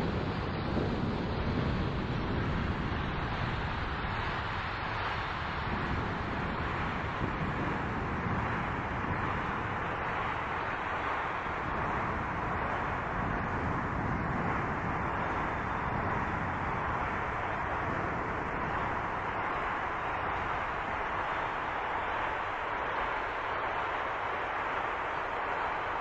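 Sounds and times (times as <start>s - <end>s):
wind and rain rushing: 0.0s - 26.0s.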